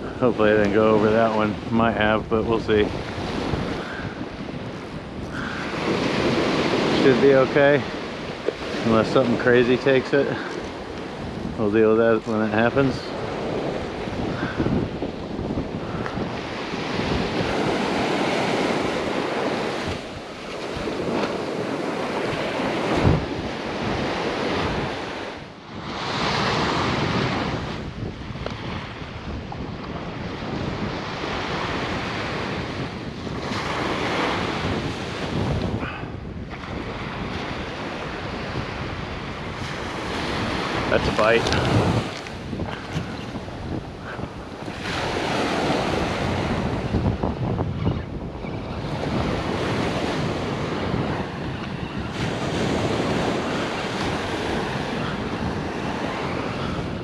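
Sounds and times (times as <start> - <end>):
small waves washing on beach: 0.0 - 57.0
wind buffeting microphone: 0.0 - 57.0.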